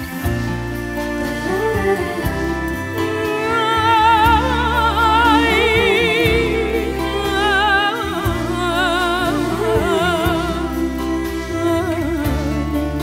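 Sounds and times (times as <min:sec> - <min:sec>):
instrumental backing: 0:00.0 - 0:13.0
woman singing with vibrato: 0:01.1 - 0:13.0.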